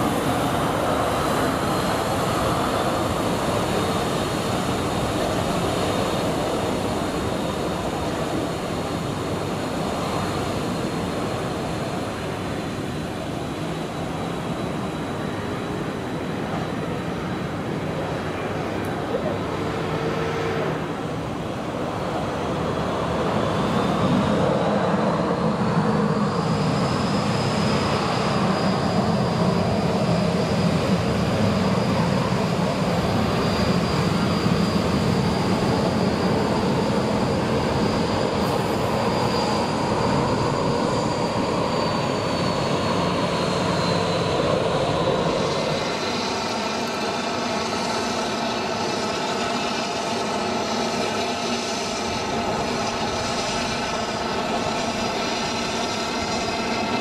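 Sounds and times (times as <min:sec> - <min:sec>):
high jet fan whine: 0:00.0 - 0:57.0
jet engines rumbling: 0:00.0 - 0:57.0.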